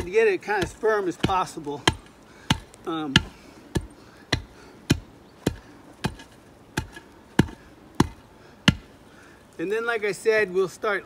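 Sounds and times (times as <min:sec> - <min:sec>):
cinder block thudding on soil: 0:00.0 - 0:08.9.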